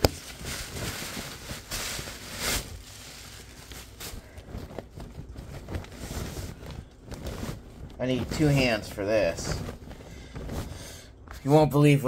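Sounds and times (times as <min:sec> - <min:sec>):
gift wrapping rustling: 0:00.0 - 0:11.5.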